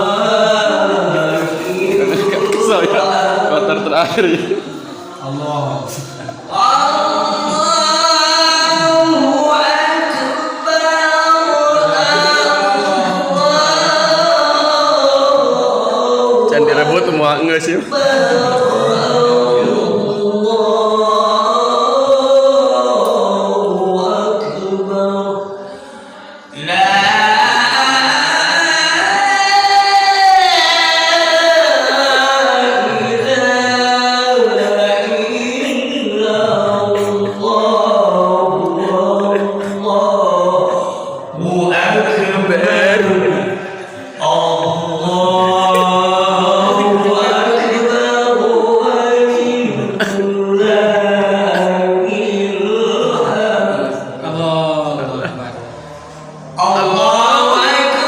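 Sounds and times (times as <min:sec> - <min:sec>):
person singing unaccompanied: 0:00.0 - 0:55.5.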